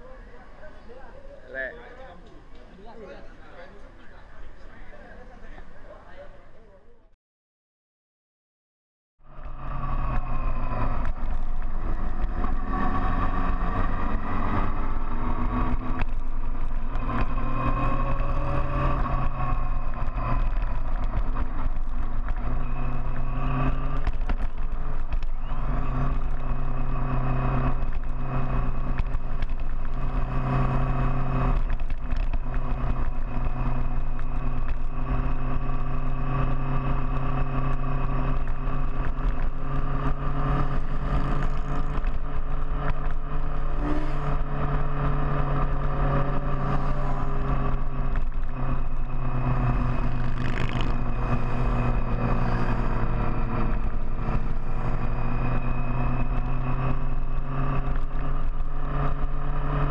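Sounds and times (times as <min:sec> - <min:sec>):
motorcycle engine running: 0:09.3 - 0:59.9.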